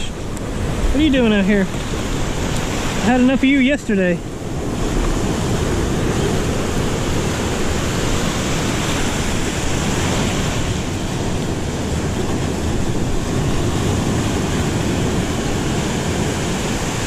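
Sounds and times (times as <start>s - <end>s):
surf washing around rocks: 0.0s - 17.0s.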